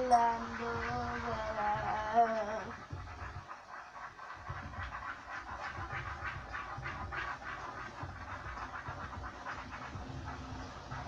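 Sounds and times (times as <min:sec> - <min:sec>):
stick stirring slime: 0:00.0 - 0:11.0.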